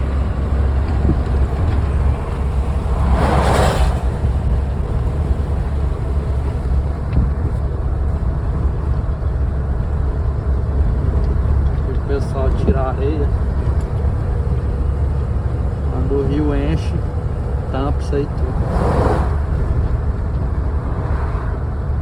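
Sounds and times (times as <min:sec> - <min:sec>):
wind buffeting microphone: 0:00.0 - 0:17.7
vehicle moving along road: 0:00.0 - 0:22.0.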